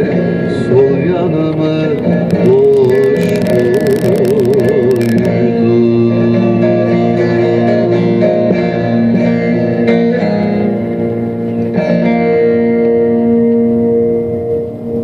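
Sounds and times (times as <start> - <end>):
plucked string instrument folk melody: 0.0 - 15.0.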